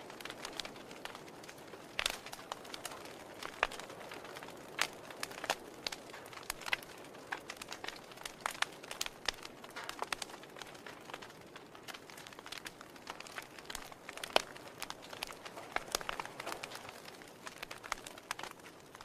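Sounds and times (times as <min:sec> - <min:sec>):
soft hiss of burning logs: 0:00.0 - 0:19.0
wood fire crackling: 0:00.0 - 0:19.0.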